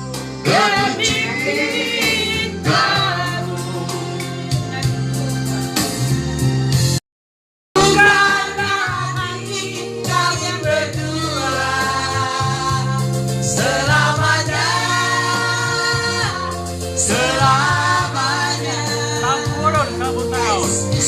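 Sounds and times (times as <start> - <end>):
group of voices singing: 0.0 - 5.0, 7.8 - 21.0
instrumental accompaniment: 0.0 - 7.0, 7.8 - 21.0.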